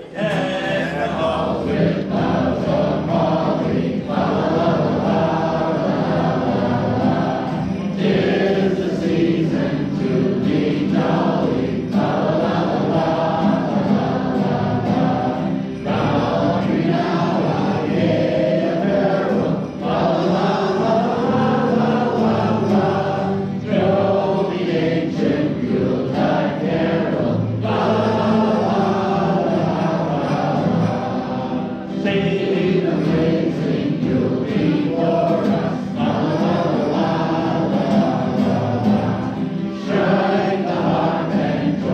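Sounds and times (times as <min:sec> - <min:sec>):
large group singing in unison: 0:00.0 - 0:41.9.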